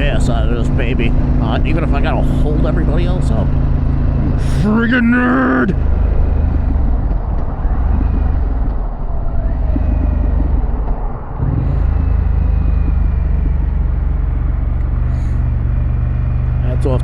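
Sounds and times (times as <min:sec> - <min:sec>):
wind noise: 0:00.0 - 0:15.9
motorcycle engine at speed: 0:00.0 - 0:17.0.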